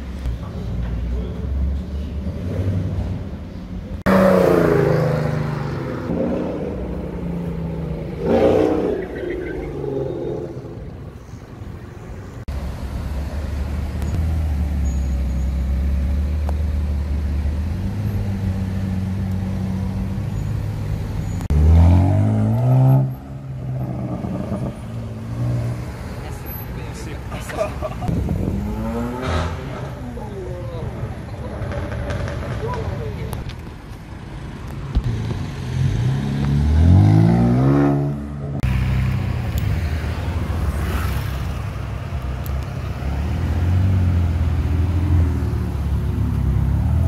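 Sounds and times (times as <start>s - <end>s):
supercar engines revving: 0.8s - 11.2s, 13.1s - 33.5s, 34.5s - 47.0s.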